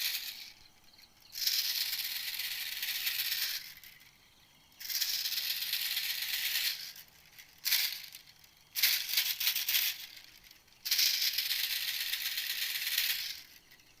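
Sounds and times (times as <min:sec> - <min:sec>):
buzzing rattle animal call: 0:00.0 - 0:14.0.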